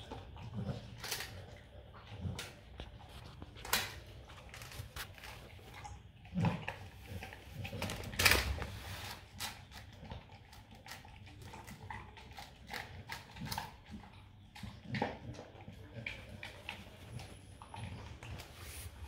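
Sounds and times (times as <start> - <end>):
dog licking and chewing: 0.0 - 19.0.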